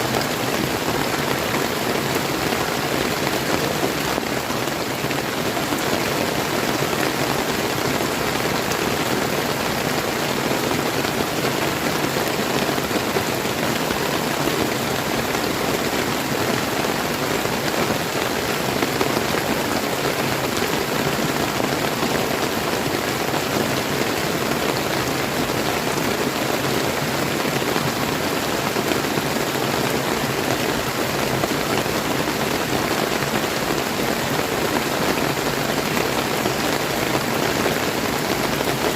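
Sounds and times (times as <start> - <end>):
rain pattering: 0.0 - 38.9
river flowing: 0.0 - 38.9.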